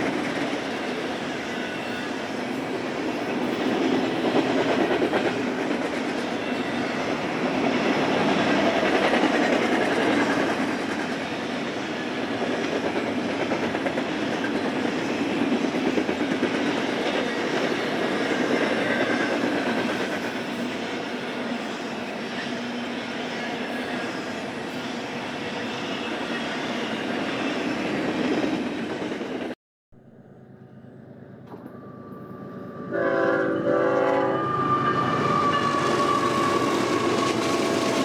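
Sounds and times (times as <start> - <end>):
freight train wheels rumbling: 0.0 - 29.6, 30.6 - 38.0.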